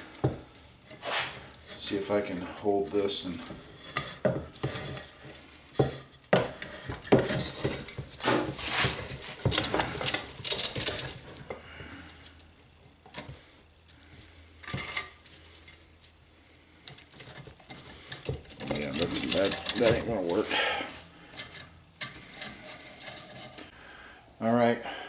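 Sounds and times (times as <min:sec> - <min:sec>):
metal tools clinking and scraping: 0:00.0 - 0:12.5, 0:14.6 - 0:15.8, 0:16.8 - 0:23.8.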